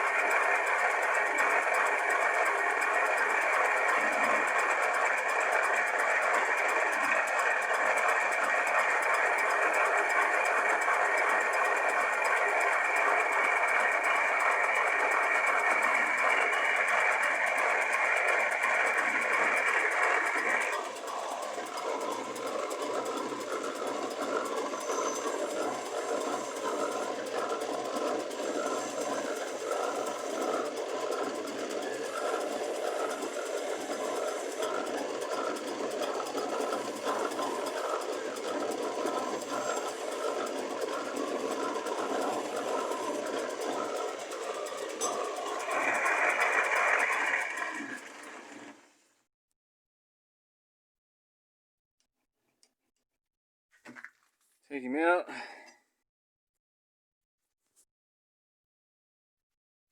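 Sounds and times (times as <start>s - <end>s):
machine tool cutting metal: 0.0s - 48.6s
machine running with faint pulse: 0.0s - 48.9s.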